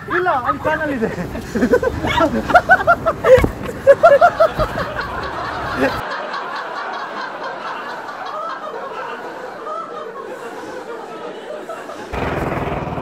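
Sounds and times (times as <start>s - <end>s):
young men laughing: 0.1s - 12.2s.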